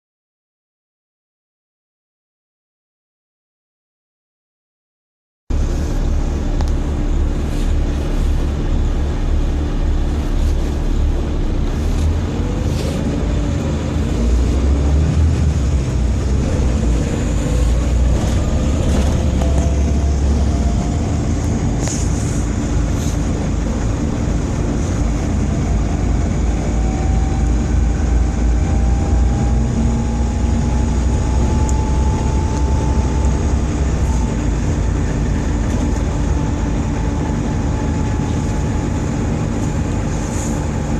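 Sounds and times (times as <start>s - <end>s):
bus diesel engine rumbling: 5.5s - 40.9s
rising whine: 5.5s - 40.9s.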